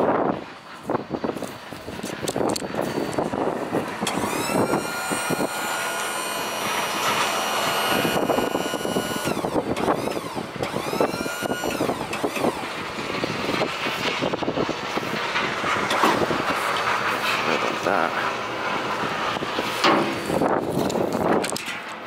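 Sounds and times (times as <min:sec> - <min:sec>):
truck engine and road noise: 0:00.0 - 0:22.0
whine: 0:00.0 - 0:22.0.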